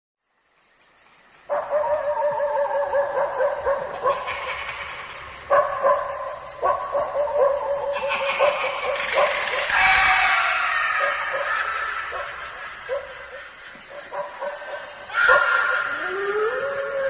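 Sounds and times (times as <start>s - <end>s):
dog-like howls and yelps: 1.5s - 4.6s, 5.5s - 13.4s, 14.0s - 17.0s.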